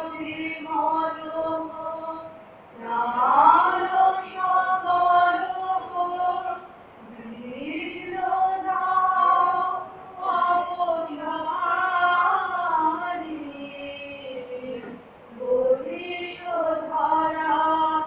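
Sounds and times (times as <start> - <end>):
woman singing slow song: 0.0 - 18.0.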